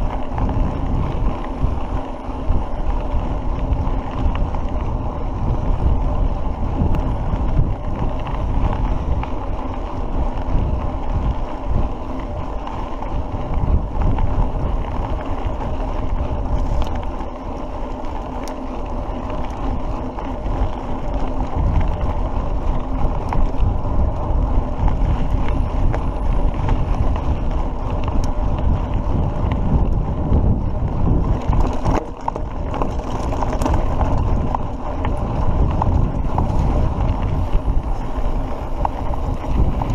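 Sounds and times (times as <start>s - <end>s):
bike rattling over rubble: 0.0s - 39.9s
tyres rolling on dirt: 0.0s - 39.9s
wind buffeting microphone: 0.0s - 39.9s.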